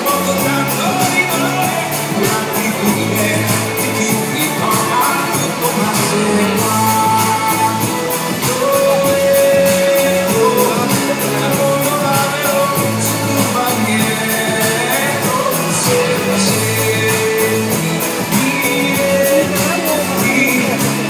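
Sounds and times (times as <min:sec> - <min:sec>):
guitar: 0:00.0 - 0:21.0
person singing: 0:00.0 - 0:21.0
steady beat: 0:00.0 - 0:21.0.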